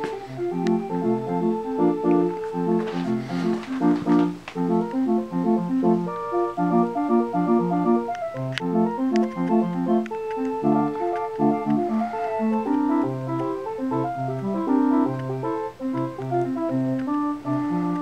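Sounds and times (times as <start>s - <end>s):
street organ music: 0.0s - 18.0s.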